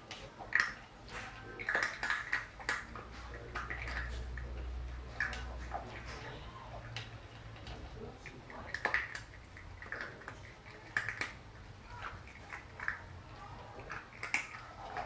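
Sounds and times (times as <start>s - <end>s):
clicks of food and bowl: 0.0s - 15.0s
puppies crunching kibble: 0.0s - 15.0s.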